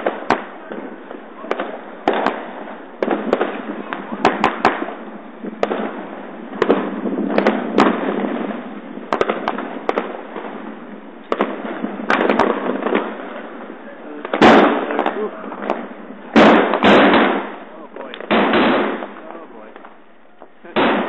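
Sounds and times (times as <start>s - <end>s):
firecrackers crackling: 0.0s - 21.0s
firework bangs: 0.0s - 21.0s.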